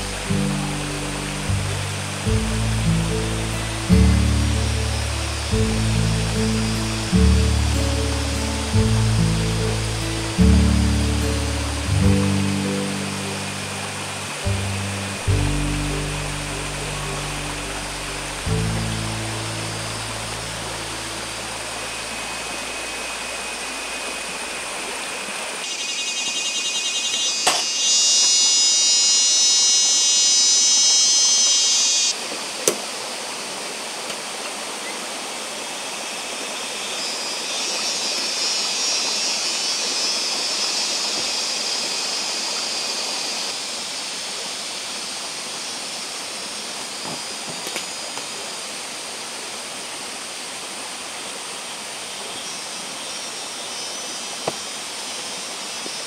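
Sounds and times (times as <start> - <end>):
stream flowing over rocks: 0.0 - 25.7, 32.1 - 56.0
loud high pulsing buzz: 0.0 - 32.2, 35.7 - 56.0
soft high buzz: 0.0 - 32.3, 34.8 - 56.0.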